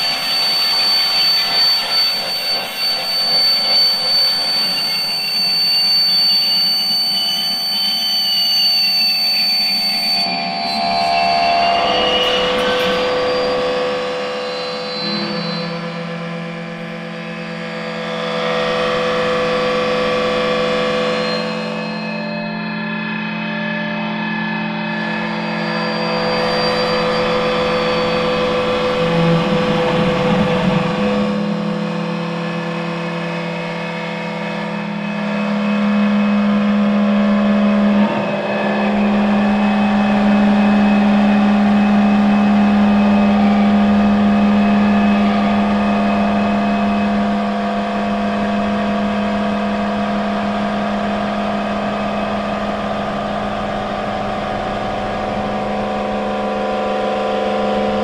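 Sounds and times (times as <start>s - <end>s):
electric guitar drone: 0.0s - 58.0s
strong low hum: 10.4s - 58.0s.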